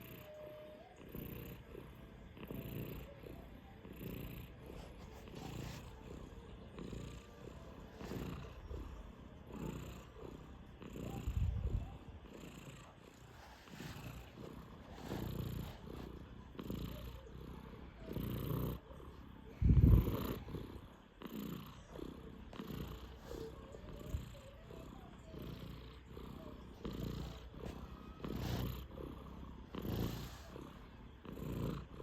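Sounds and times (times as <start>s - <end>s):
cat snoring: 0.0s - 32.0s.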